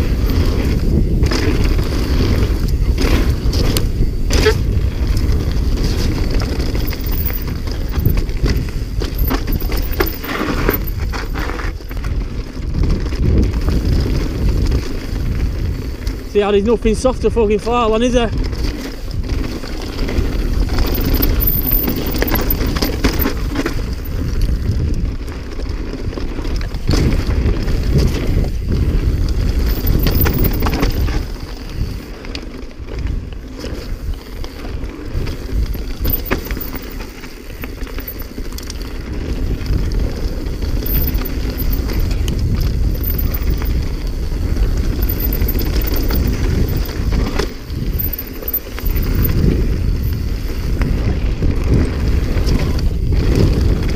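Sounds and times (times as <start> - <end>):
bike knocks and rattles: 0.0 - 16.2, 18.3 - 53.9
bike tyres crunching over stones: 0.0 - 53.9
wind on microphone: 0.0 - 53.9.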